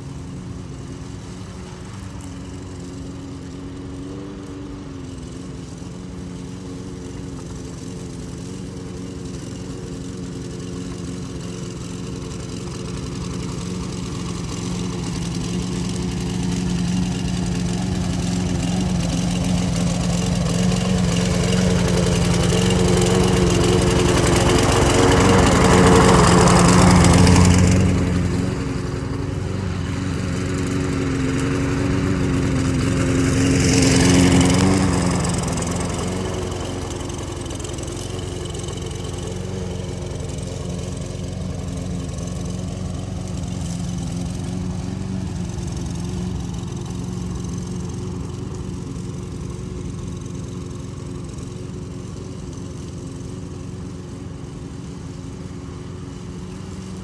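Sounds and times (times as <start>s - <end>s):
push mower engine cutting grass: 0.0s - 57.0s.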